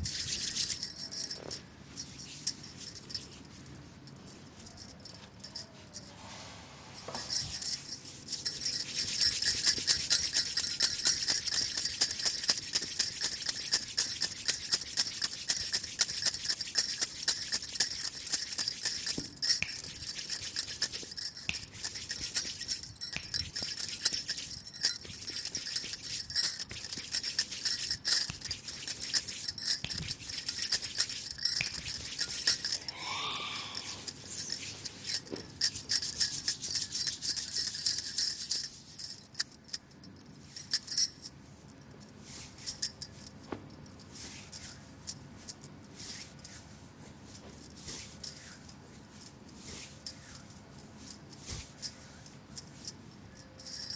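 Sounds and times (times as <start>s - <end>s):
metallic jingling and rattling: 0.0s - 6.2s, 7.0s - 46.6s, 47.3s - 53.9s.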